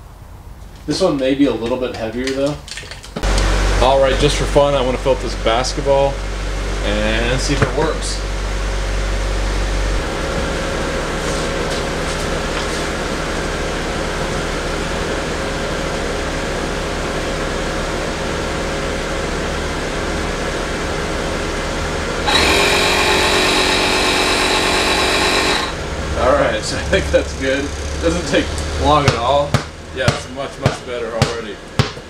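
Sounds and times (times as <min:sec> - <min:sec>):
steady background hum: 0:00.0 - 0:32.0
air compressor motor whine: 0:03.2 - 0:29.5.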